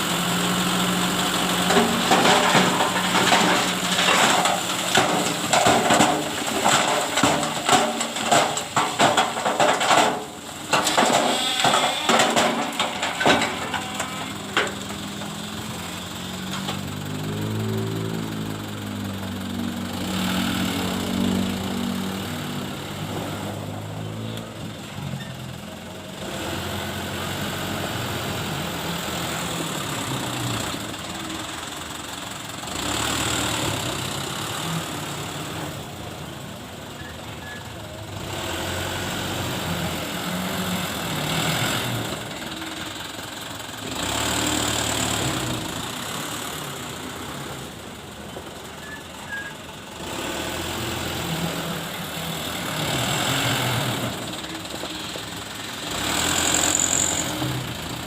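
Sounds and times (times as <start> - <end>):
dump truck engine revving: 0.0 - 58.0.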